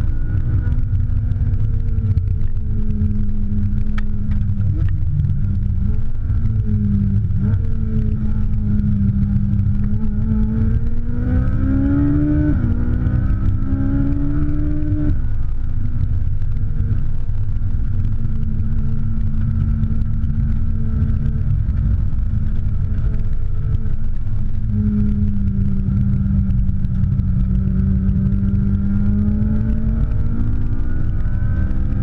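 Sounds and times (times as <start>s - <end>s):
car engine accelerating: 0.0s - 32.0s
heavy low rumble: 0.0s - 32.0s.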